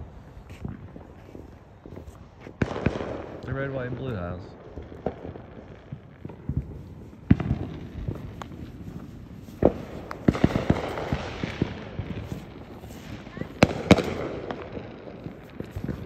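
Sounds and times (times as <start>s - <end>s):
fireworks banging and crackling: 0.0s - 16.0s.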